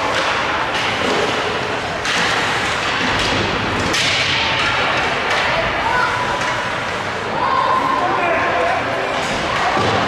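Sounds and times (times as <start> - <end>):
crowd noise in echoing hall: 0.0 - 10.0.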